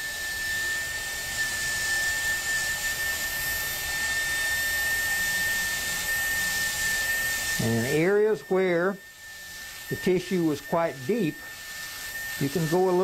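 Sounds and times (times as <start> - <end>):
dental drill whining: 0.0 - 13.0.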